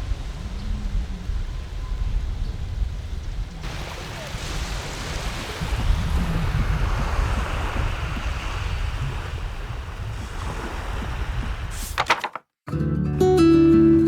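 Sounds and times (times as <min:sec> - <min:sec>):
wind buffeting microphone: 0:00.0 - 0:11.9
waves washing onto sandy beach: 0:00.0 - 0:12.0.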